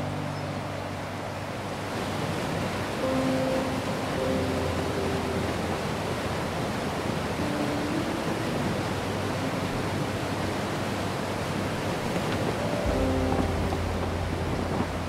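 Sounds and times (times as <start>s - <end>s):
wind and water rushing: 0.0s - 15.0s.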